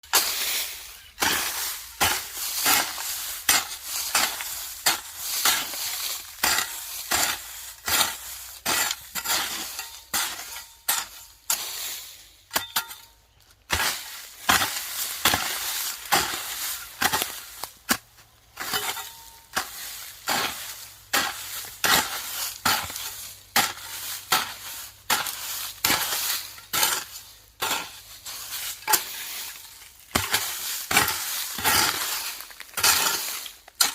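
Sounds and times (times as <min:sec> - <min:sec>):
hoe chopping and scraping soil: 0:00.0 - 0:33.9.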